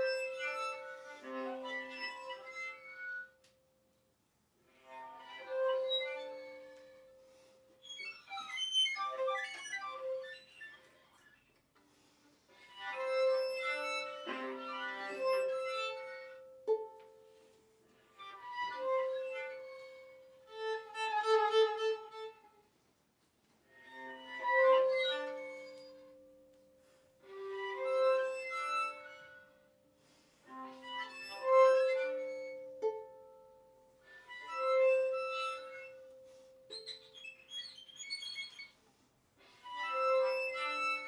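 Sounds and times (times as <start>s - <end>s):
violin and viola playing: 0.0s - 3.5s, 4.7s - 11.2s, 11.8s - 17.5s, 18.2s - 22.7s, 23.7s - 38.7s, 39.4s - 41.0s.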